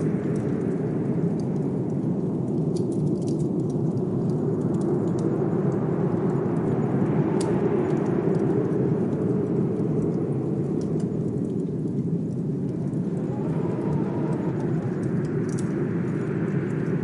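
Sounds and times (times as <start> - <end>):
blizzard wind rushing: 0.0 - 17.0
wood fire crackling: 0.0 - 17.0.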